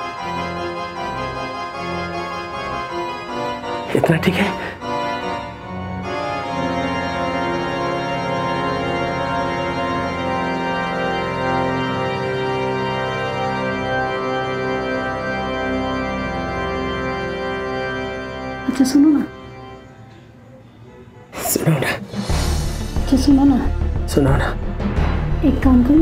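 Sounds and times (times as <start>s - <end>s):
slow film score chords: 0.0s - 26.0s.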